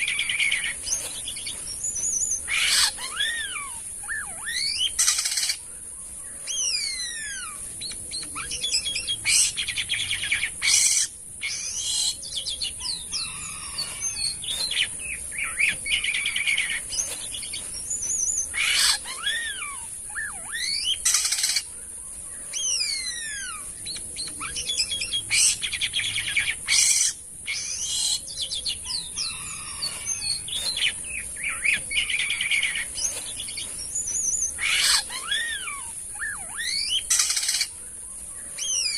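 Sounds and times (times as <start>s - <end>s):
starling singing: 0.0s - 5.6s, 6.4s - 21.7s, 22.6s - 37.7s
steady high hiss: 0.0s - 38.9s.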